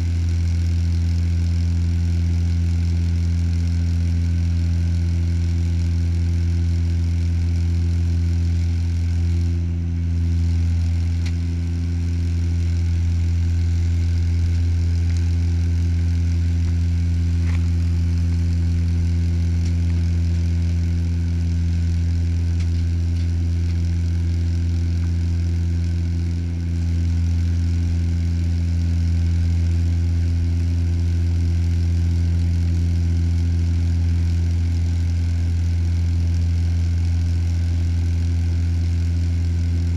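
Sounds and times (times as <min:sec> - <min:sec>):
airliner engines droning in cabin: 0:00.0 - 0:39.9.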